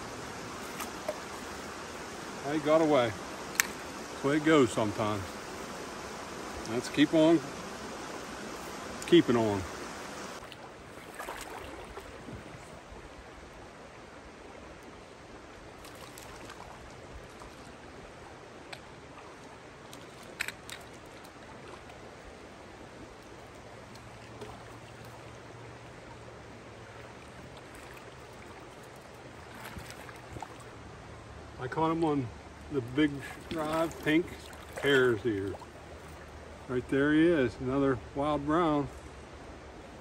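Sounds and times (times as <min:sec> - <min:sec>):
stream running over stones: 0:00.0 - 0:40.0.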